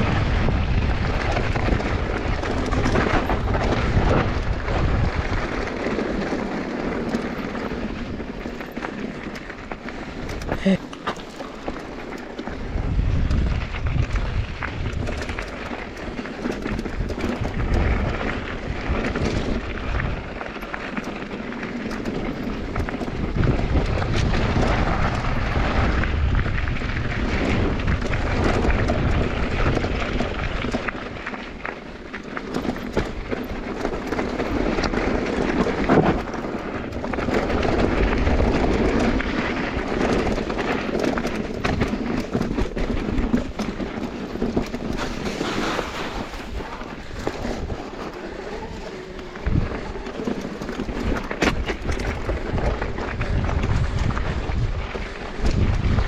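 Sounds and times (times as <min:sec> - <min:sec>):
bike rattling and knocking: 0:00.0 - 0:56.0
tyres rolling over gravel: 0:00.0 - 0:56.0
wind buffeting microphone: 0:00.0 - 0:56.0.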